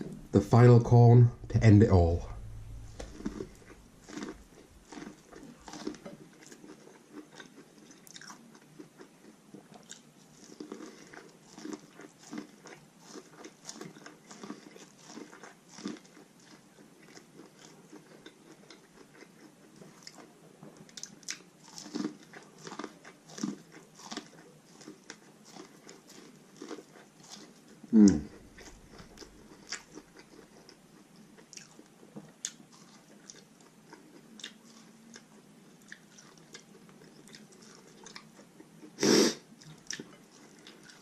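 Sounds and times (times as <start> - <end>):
person chewing corn on the cob: 2.4 - 41.0.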